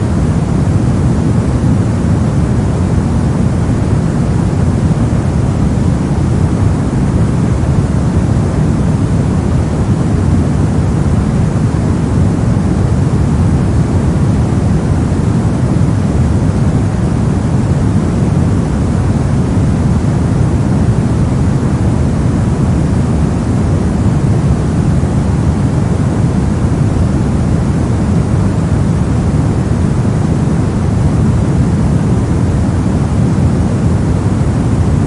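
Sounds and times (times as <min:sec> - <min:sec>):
brown noise rumble: 0:00.0 - 0:35.0.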